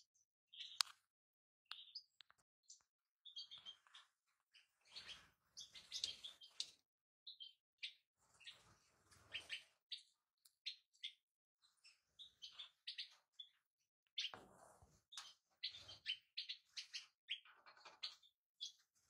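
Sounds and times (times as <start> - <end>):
finches chirping and twittering: 0.0 - 1.1, 1.7 - 19.0.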